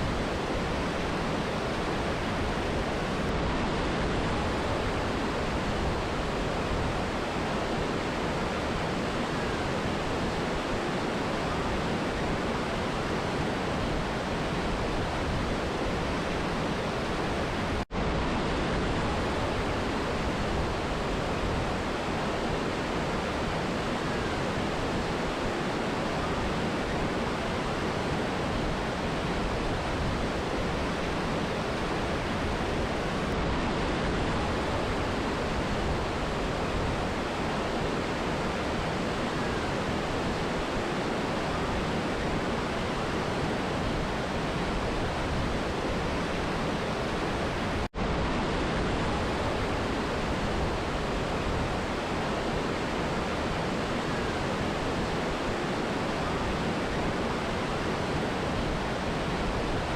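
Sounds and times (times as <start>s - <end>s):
river and waterfall rushing: 0.0s - 59.9s.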